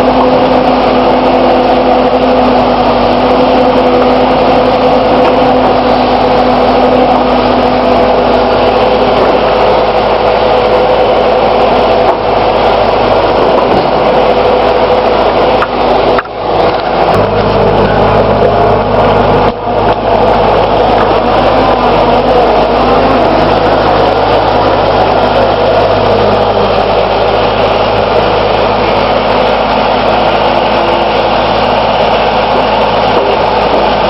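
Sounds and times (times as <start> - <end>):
skid steer engine running: 0.0 - 34.0.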